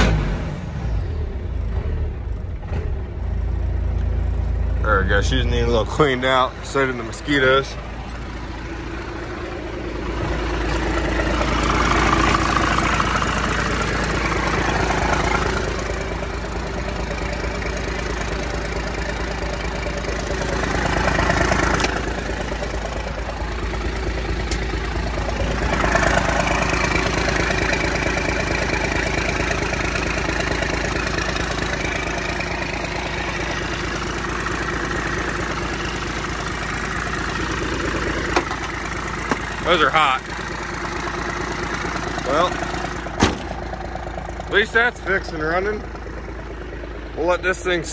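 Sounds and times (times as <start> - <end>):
diesel truck engine idling roughly: 3.0 - 47.9.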